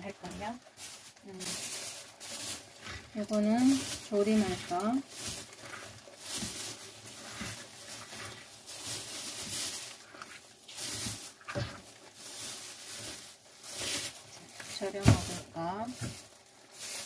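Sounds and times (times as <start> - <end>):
rustling and scraping on wooden board: 0.7 - 17.0.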